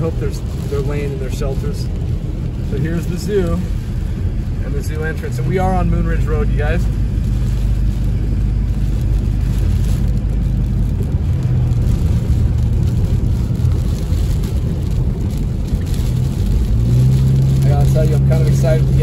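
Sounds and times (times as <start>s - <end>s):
engine and drivetrain hum: 0.0s - 19.0s
tyre hiss on wet road: 0.0s - 19.0s.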